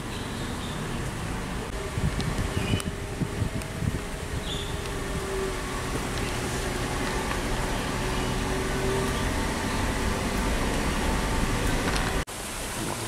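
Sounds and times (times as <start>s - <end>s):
car engine hum: 0.9s - 12.3s.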